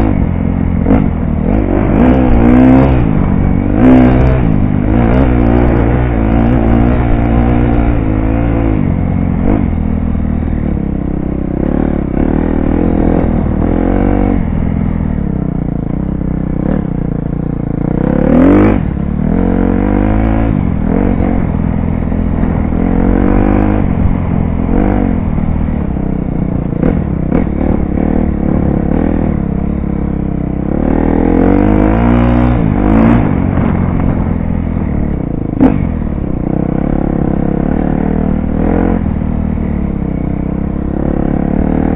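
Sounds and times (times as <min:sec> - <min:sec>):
dirt bike engine revving: 0:00.0 - 0:15.6, 0:16.5 - 0:41.9.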